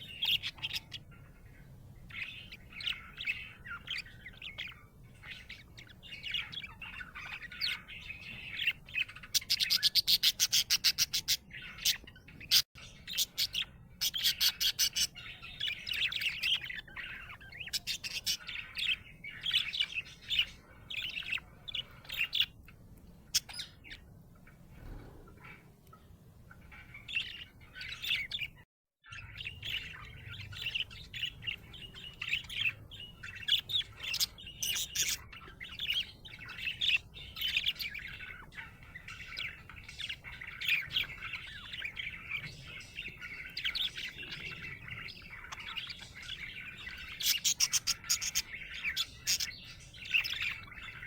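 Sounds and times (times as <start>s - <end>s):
budgerigar chirping and warbling: 0.0s - 22.6s, 23.3s - 25.7s, 26.6s - 51.0s.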